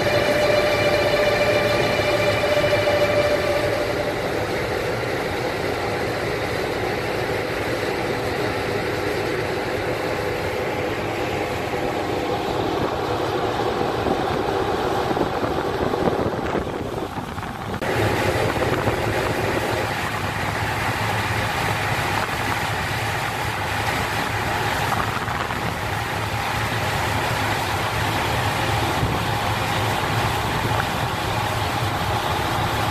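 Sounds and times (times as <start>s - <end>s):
boat diesel engine running: 0.0s - 32.9s
steady rushing noise: 0.0s - 32.9s.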